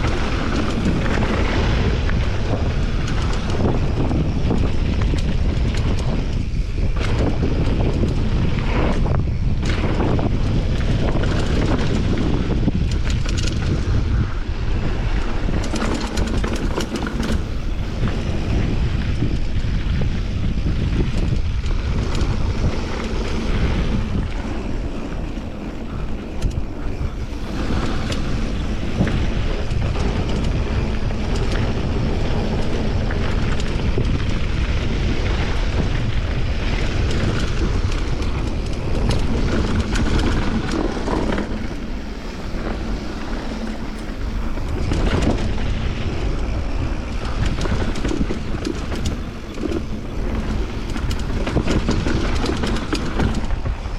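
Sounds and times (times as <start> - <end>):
tyres rumbling on dirt: 0.0 - 53.9
wind buffeting microphone: 0.0 - 53.9.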